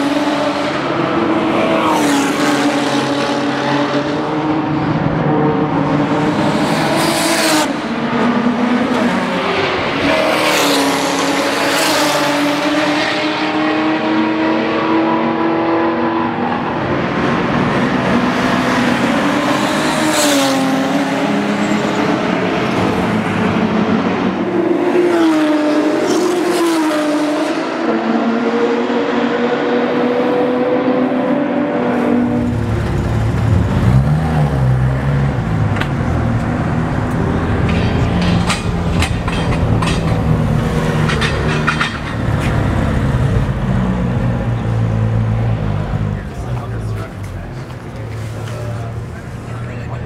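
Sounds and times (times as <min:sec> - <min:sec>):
race cars driving past: 0:00.0 - 0:50.0.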